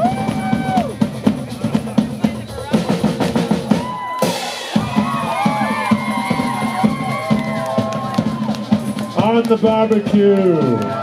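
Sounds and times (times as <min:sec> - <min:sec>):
rock drum kit playing: 0:00.0 - 0:11.0.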